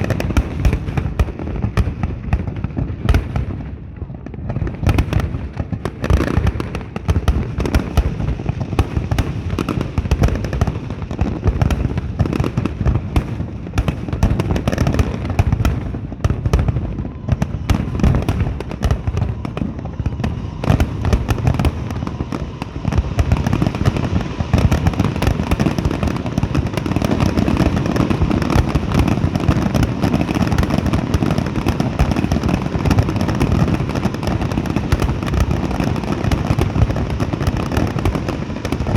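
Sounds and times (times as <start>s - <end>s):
fireworks booms and crackle: 0.0s - 38.9s.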